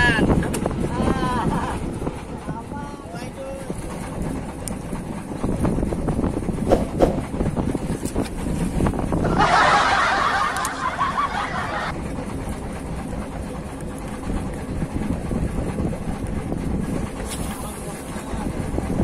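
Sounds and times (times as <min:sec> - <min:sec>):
choppy sea rumble: 0:00.0 - 0:19.0
wind buffeting microphone: 0:00.0 - 0:19.0.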